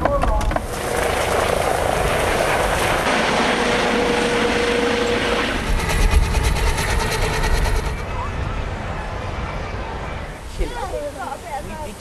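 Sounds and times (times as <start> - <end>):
helicopter flying overhead: 0.5 - 11.5.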